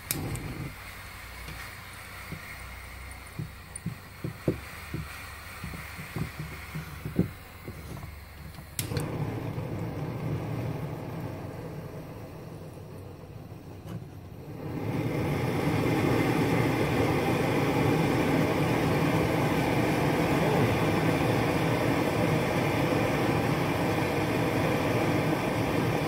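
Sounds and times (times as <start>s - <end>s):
stove burner rushing: 0.0s - 26.0s.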